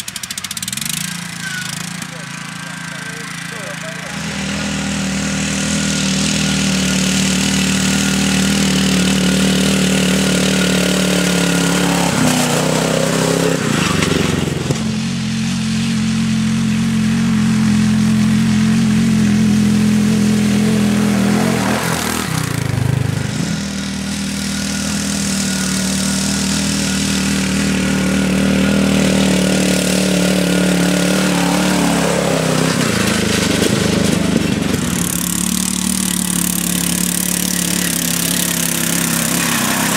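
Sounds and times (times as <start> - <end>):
lawn mower engines running hard: 0.0 - 39.9.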